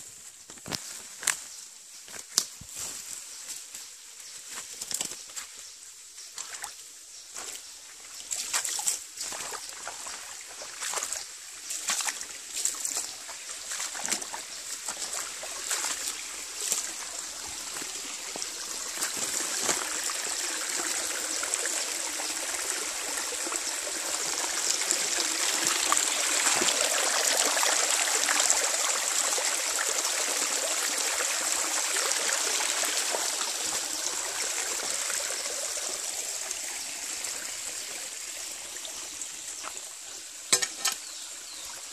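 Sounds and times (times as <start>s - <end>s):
stream trickling over rocks: 3.2s - 41.9s.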